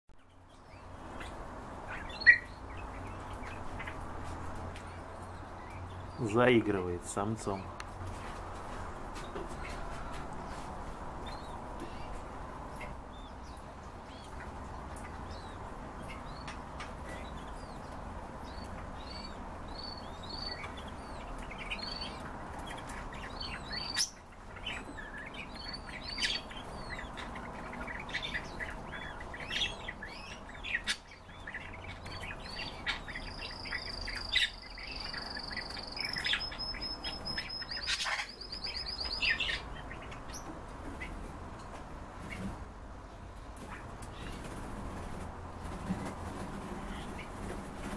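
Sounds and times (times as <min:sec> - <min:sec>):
cage birds chirping: 0:00.1 - 0:47.9.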